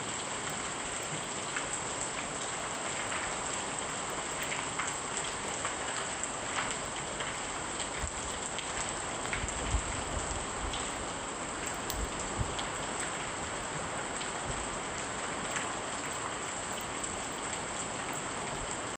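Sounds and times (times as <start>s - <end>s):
drip-like ticks: 0.0s - 18.9s
rain falling: 0.0s - 18.9s.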